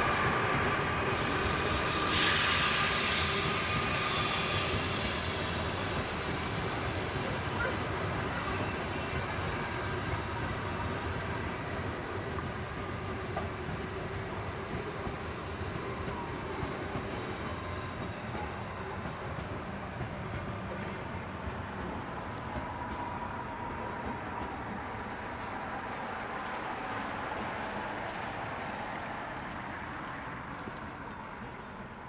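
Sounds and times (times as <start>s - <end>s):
train rumbling on tracks: 0.0s - 32.0s.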